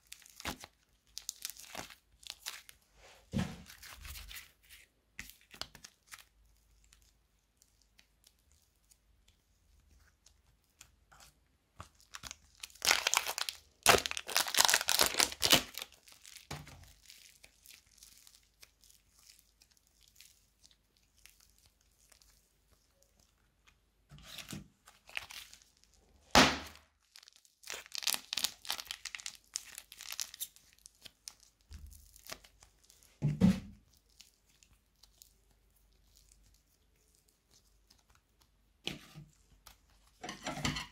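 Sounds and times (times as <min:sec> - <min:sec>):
slime sticky crackling and tearing: 0:00.0 - 0:02.8, 0:03.7 - 0:33.2, 0:33.8 - 0:38.6.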